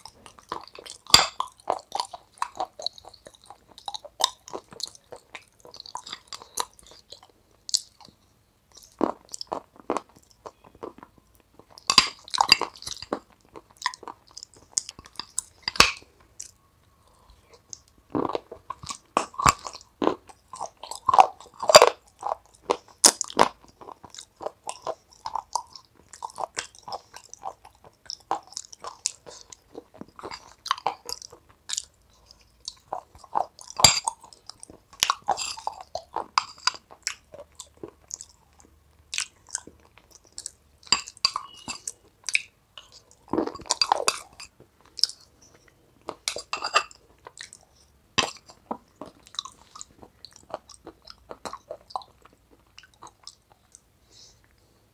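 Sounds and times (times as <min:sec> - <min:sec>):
person chewing: 0:00.0 - 0:54.8.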